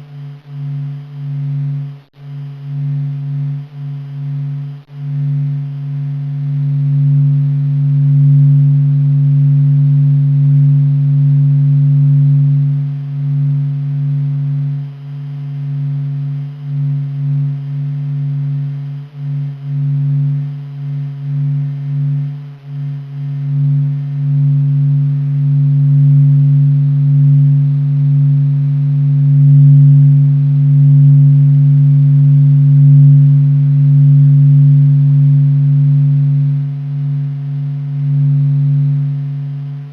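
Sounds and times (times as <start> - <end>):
low droning hum: 0.0 - 39.9.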